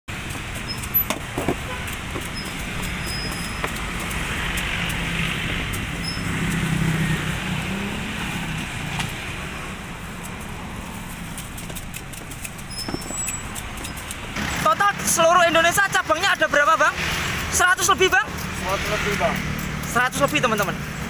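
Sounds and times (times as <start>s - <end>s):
street traffic: 0.1s - 21.0s.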